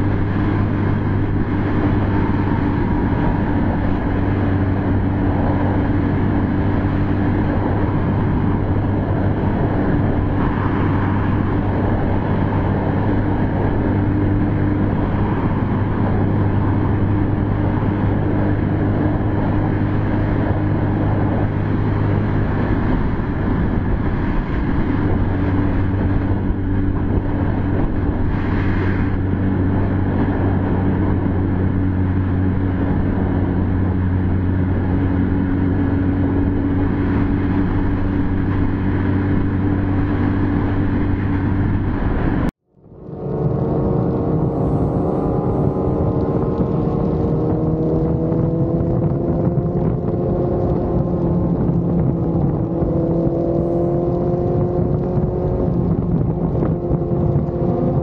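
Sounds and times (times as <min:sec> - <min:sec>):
motorcycle engine drone: 0:00.0 - 0:58.0
wind rushing: 0:00.0 - 0:58.0.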